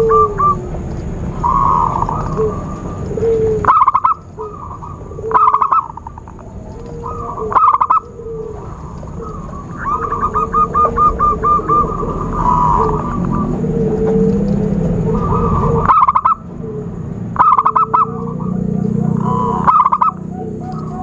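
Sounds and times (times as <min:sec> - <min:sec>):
doves cooing: 0:00.0 - 0:21.0
low rumble: 0:00.0 - 0:21.0.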